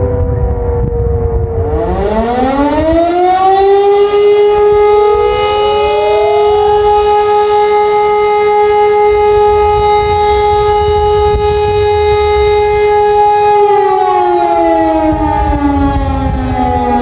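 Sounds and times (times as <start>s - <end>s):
warning sirens winding down: 0.0s - 17.0s.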